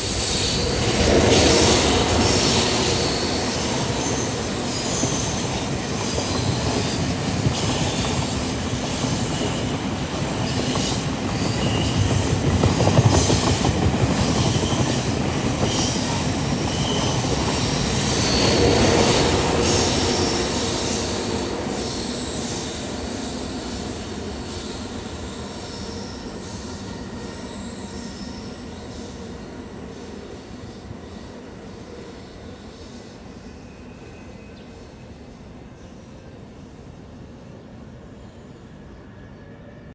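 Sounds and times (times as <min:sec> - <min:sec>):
train rumble: 0:00.0 - 0:39.9
train wheels squealing on rails: 0:00.0 - 0:39.9.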